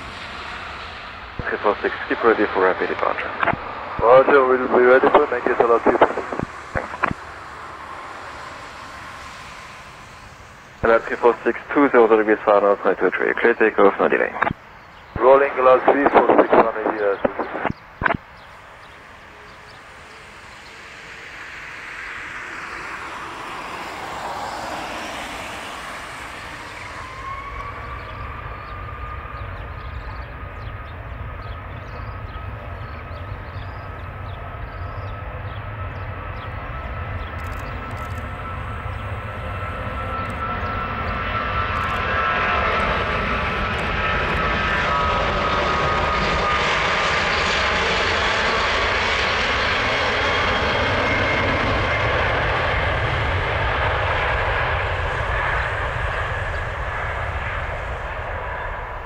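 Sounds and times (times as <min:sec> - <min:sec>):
jet engine deep rumble: 0:00.0 - 0:59.0
jet engine high whine: 0:00.0 - 0:59.0.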